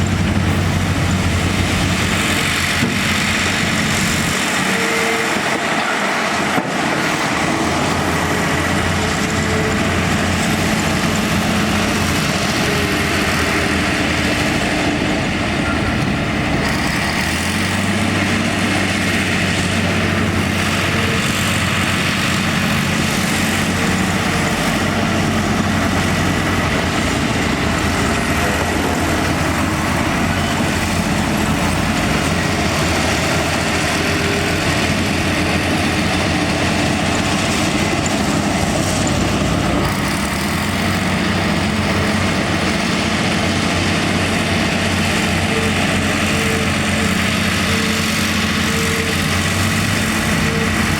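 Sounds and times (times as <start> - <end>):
truck engine humming: 0.0 - 50.9.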